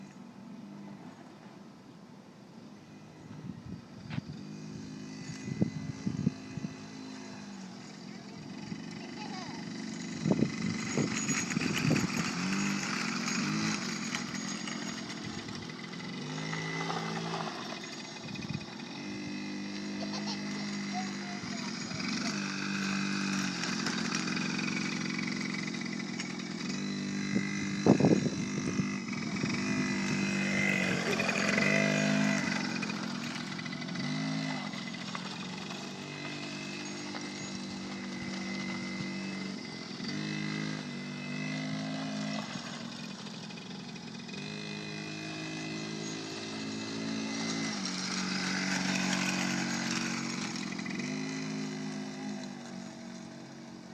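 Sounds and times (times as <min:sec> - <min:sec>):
dirt bike engine revving: 0:04.0 - 0:53.9.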